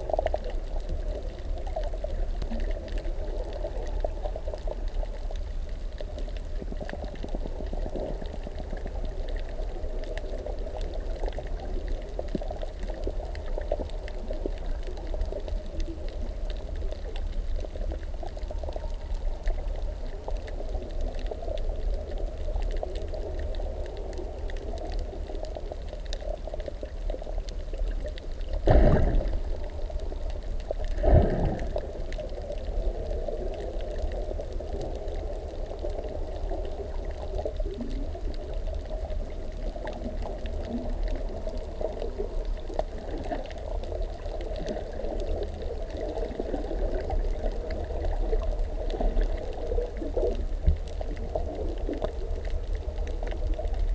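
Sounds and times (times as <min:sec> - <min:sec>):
muffled underwater rumble: 0:00.0 - 0:53.9.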